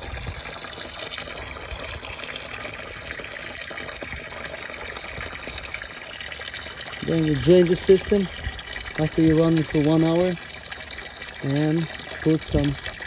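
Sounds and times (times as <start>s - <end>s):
water splashing onto pavement: 0.0s - 13.0s.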